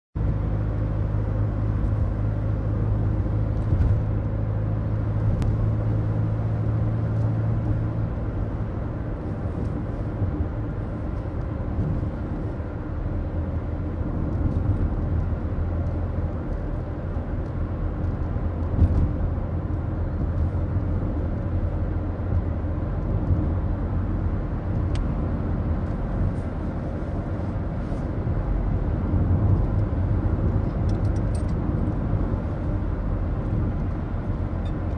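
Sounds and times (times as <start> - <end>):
car engine drone: 0.2 - 34.9
road rumble: 0.2 - 34.9.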